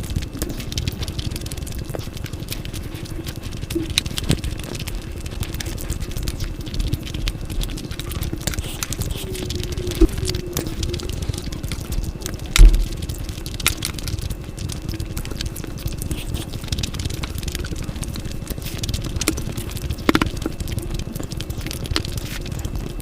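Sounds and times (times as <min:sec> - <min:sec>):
chewing and biting clicks: 0:00.0 - 0:23.0.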